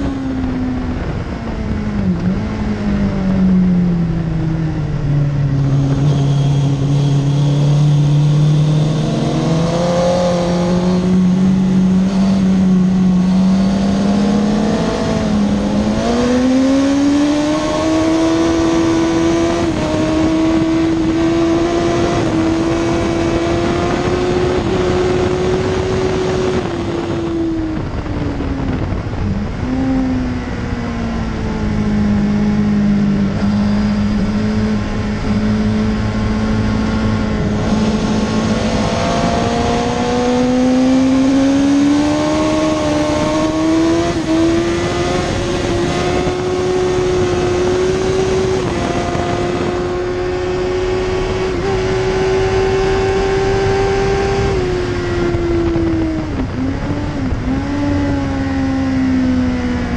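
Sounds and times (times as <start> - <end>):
motorcycle engine at high revs: 0.0 - 59.9
wind rush: 0.0 - 59.9.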